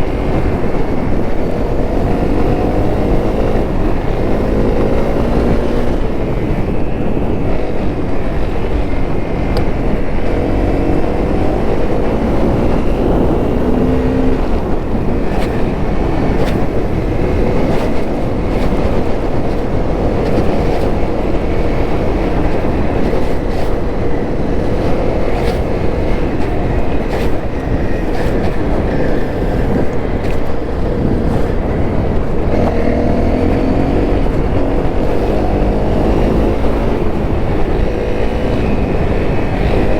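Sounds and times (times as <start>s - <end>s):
motorcycle engine running: 0.0s - 39.9s
steady low rumble: 0.0s - 39.9s.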